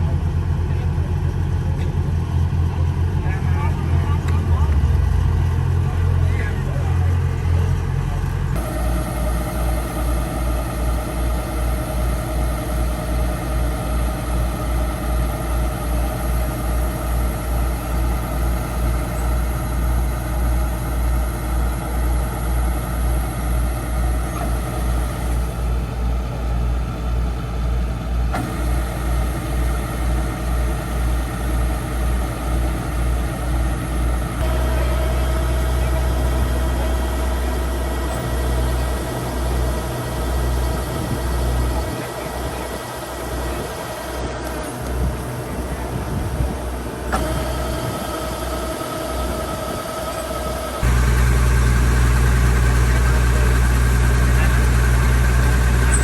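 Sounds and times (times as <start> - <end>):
diesel engine running with pulsing: 0.0 - 56.0.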